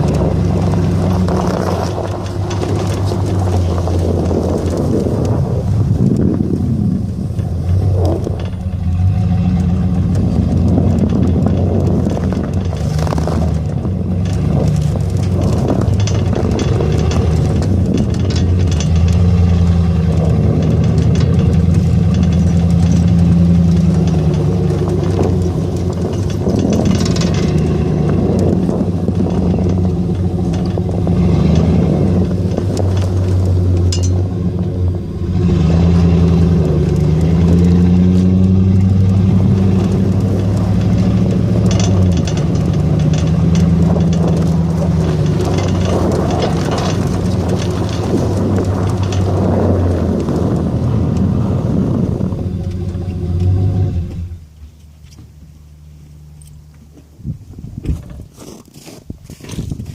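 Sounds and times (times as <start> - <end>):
snowplow engine running: 0.0 - 57.5.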